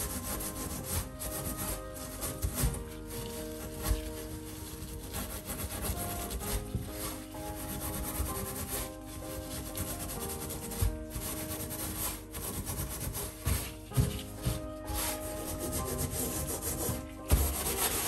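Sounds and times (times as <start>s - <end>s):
metal scourer scrubbing hob: 0.0s - 18.0s
soft background music: 0.0s - 18.0s.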